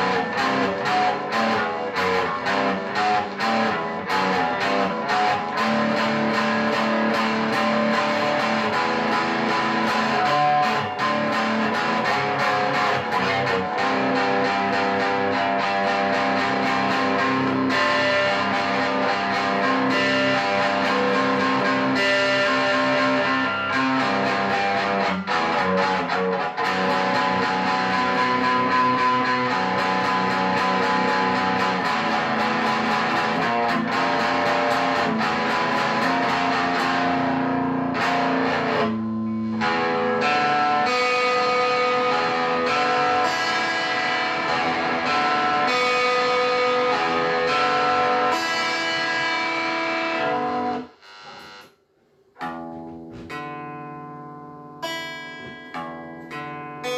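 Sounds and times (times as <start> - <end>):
guitar music: 0.0 - 51.7, 52.3 - 56.9.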